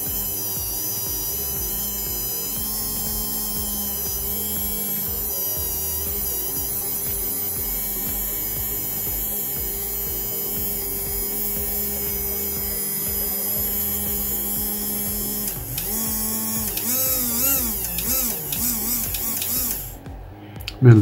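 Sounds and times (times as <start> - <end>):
small electric motor humming: 0.0 - 20.8.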